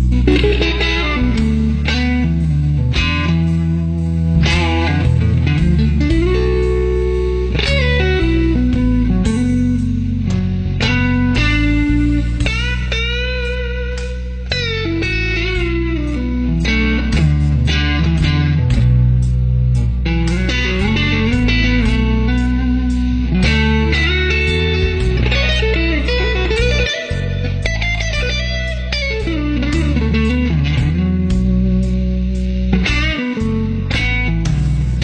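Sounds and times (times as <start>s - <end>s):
electric guitar lead: 0.0s - 35.0s
sustained low bass notes: 0.0s - 35.0s.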